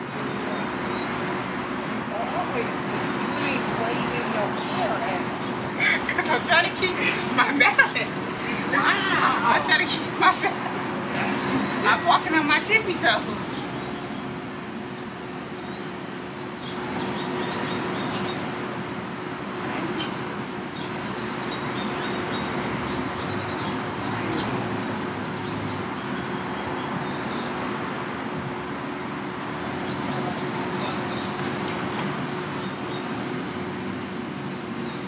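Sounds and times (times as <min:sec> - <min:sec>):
small birds chirping: 0:00.0 - 0:28.0, 0:28.8 - 0:35.0
traffic hum: 0:00.0 - 0:35.0.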